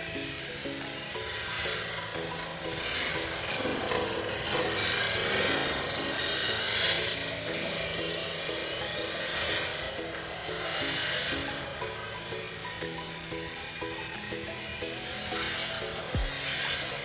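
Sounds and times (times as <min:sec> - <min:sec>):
background music: 0:00.0 - 0:17.0
rc car tyres sliding: 0:00.8 - 0:17.0.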